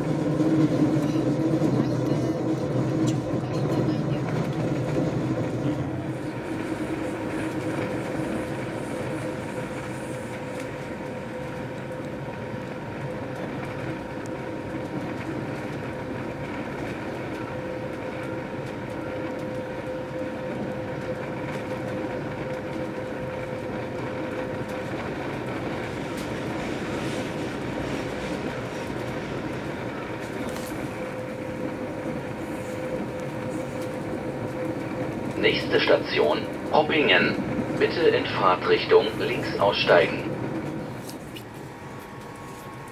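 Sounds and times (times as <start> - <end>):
constant train whine: 0.0 - 42.9
train rumble and rail noise: 0.0 - 42.9.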